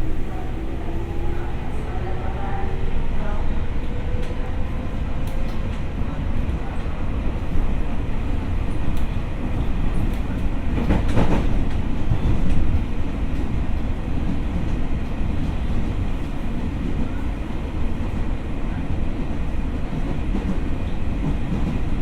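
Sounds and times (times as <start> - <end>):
train rattle: 0.0 - 22.0
train wheels rumbling on rail: 0.0 - 22.0.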